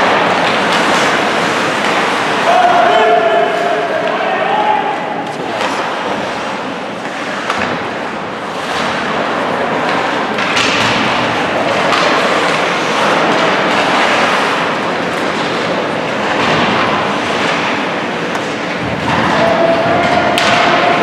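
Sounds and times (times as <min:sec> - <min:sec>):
ice rink rushing din: 0:00.0 - 0:21.0.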